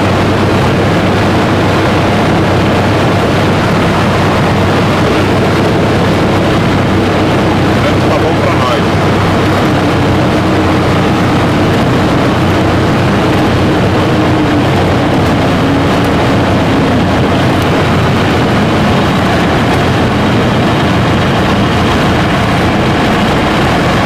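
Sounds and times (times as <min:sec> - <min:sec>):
light plane engine droning: 0:00.0 - 0:24.0.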